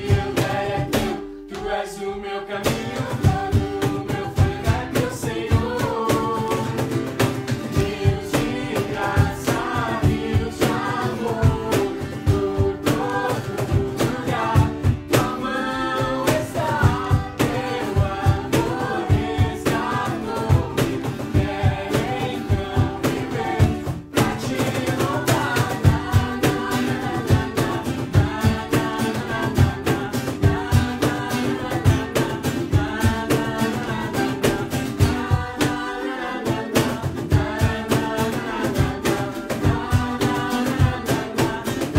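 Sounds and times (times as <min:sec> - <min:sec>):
drum kit steady beat: 0:00.0 - 0:01.2, 0:02.7 - 0:41.9
acoustic guitar: 0:00.0 - 0:41.9
person singing: 0:02.6 - 0:07.1, 0:07.7 - 0:41.9.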